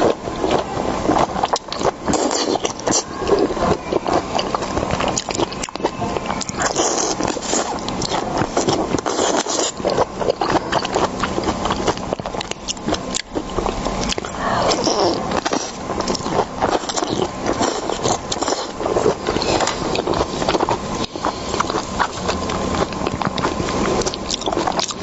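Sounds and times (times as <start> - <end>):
chewing seafood: 0.0 - 25.0.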